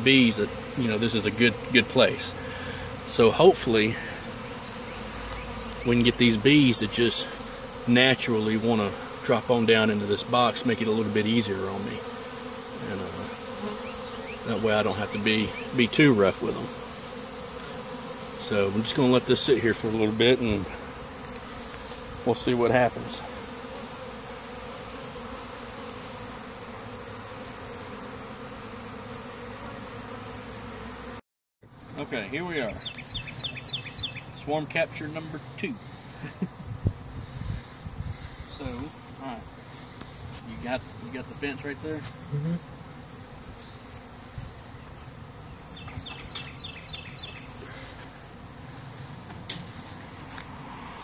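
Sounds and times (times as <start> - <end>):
bee swarm buzzing: 0.0 - 51.0.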